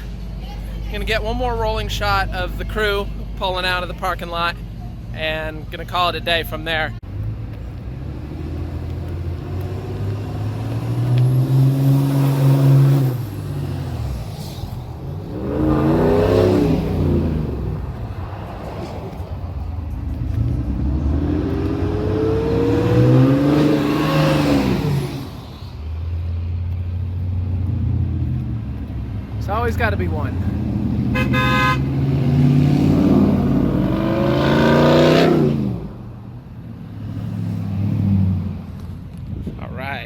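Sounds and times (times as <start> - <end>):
pickup trucks driving past: 7.0 - 39.5.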